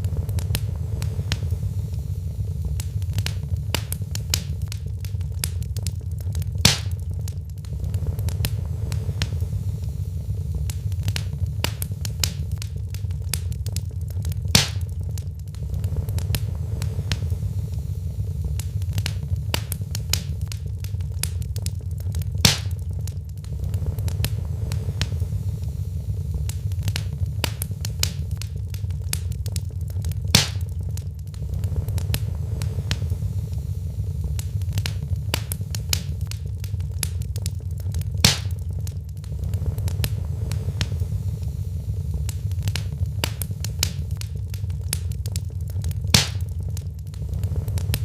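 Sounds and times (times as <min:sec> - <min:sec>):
fire low rumble: 0:00.0 - 0:48.0
wood fire crackling and popping: 0:00.0 - 0:48.0.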